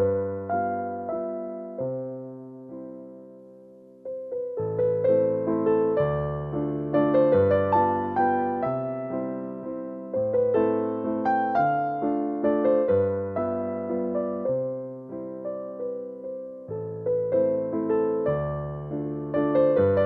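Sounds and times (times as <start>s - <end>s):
gentle electric piano: 0.0s - 20.0s.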